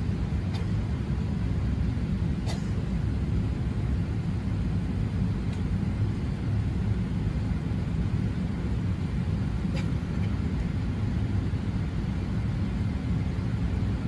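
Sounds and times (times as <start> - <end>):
airplane cabin low rumble: 0.0 - 14.0.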